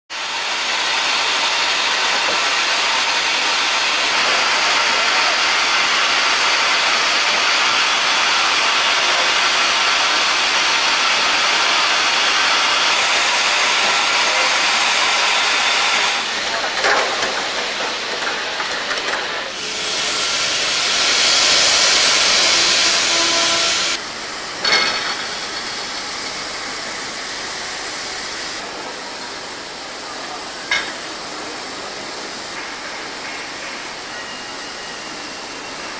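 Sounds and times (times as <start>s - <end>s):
steam hissing: 0.1s - 35.9s.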